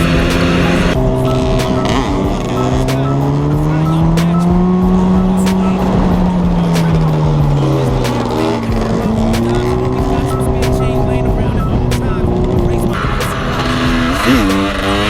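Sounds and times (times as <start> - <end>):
motorcycle two-stroke engine revving: 0.0 - 15.0.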